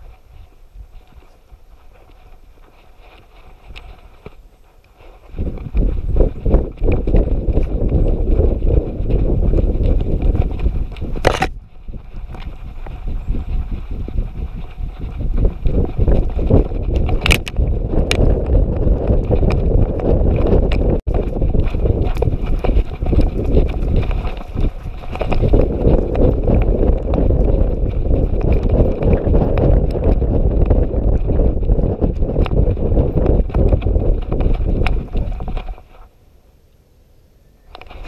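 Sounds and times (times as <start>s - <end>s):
harness jostling against camera: 0.0s - 36.1s, 37.7s - 38.0s.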